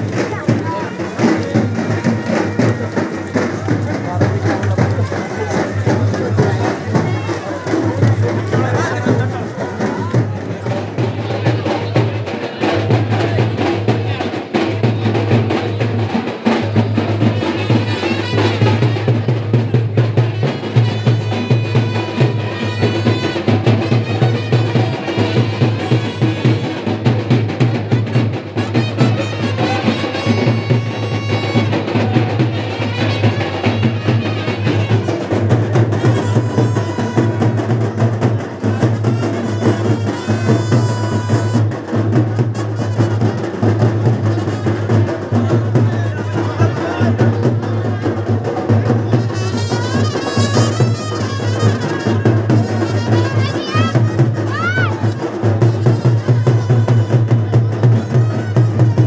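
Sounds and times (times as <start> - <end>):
loud fast drumming: 0.0 - 59.0.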